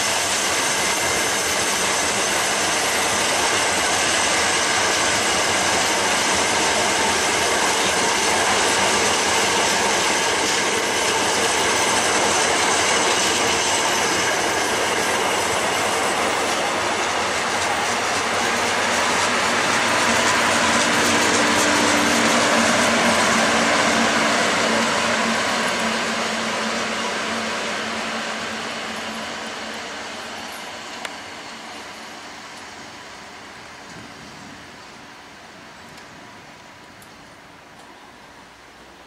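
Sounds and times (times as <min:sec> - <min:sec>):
high wheel squeal: 0:00.0 - 0:31.5
train wheels clacking over rail joints: 0:00.0 - 0:31.6.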